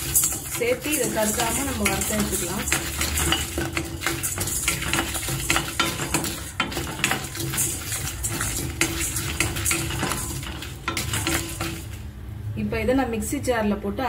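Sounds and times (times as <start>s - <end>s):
spices rattling against metal: 0.0s - 12.1s
wooden spatula scraping metal pan: 0.0s - 12.1s.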